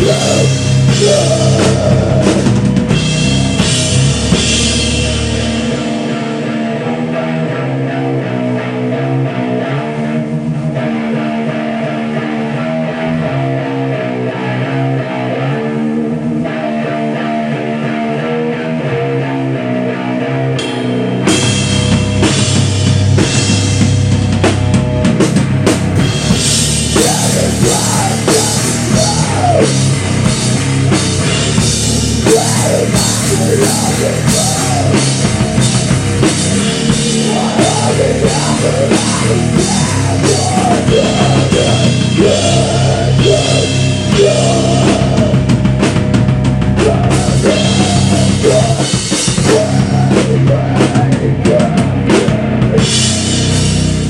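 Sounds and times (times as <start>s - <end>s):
drum kit: 0.0s - 14.0s, 20.5s - 54.0s
bass guitar: 0.0s - 54.0s
electric guitar: 0.0s - 54.0s.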